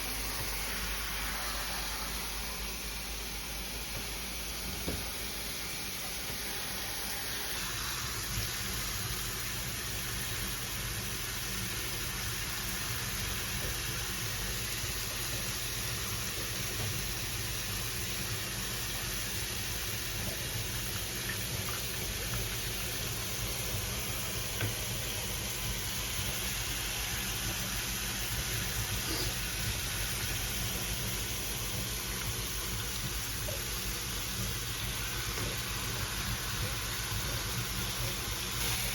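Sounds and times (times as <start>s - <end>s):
shower spraying water: 0.0s - 38.9s.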